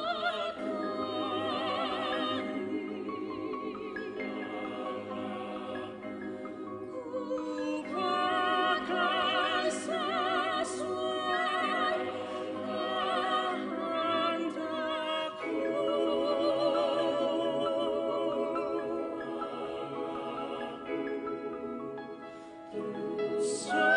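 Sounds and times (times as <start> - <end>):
classical singing with vibrato: 0.0 - 23.9.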